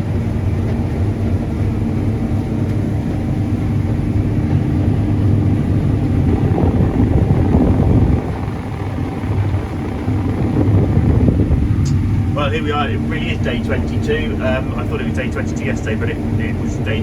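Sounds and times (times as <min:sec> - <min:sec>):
combine harvester engine drone: 0:00.0 - 0:17.0
rough rumble: 0:03.3 - 0:17.0.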